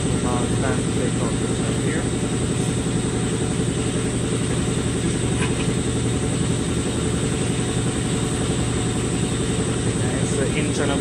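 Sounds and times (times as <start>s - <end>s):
mechanical drone with low hum: 0.0s - 11.0s.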